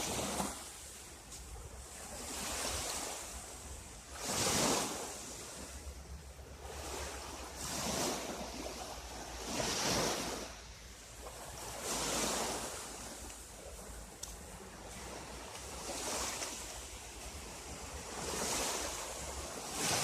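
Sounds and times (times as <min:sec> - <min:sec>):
small sea waves washing in: 0:00.0 - 0:20.0.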